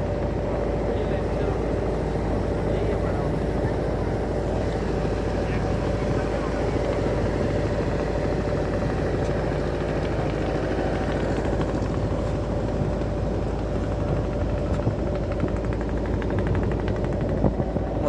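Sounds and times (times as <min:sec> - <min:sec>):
boat engine thrumming: 0:00.0 - 0:18.0.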